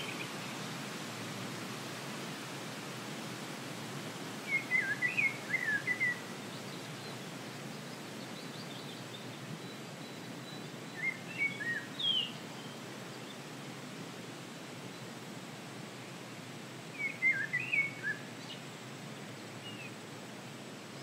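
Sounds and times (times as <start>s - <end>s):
forest breeze hiss: 0.0s - 21.0s.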